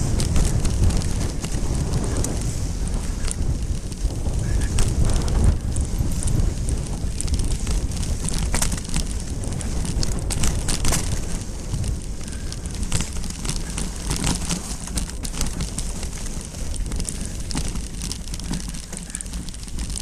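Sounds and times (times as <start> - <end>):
bike tyres rolling over dirt: 0.0 - 20.0
sharp clicks and rattles: 0.0 - 20.0
wind rumble on microphone: 0.0 - 20.0.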